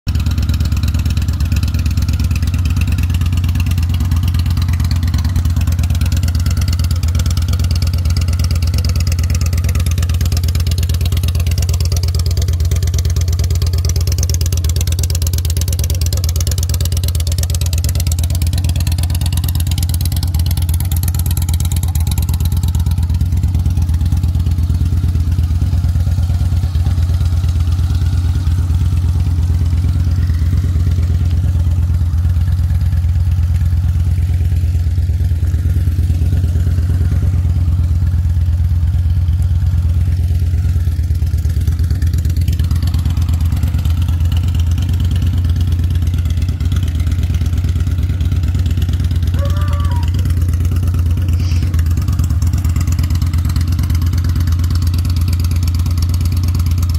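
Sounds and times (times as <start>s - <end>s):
motorcycle engine idling: 0.1s - 56.9s.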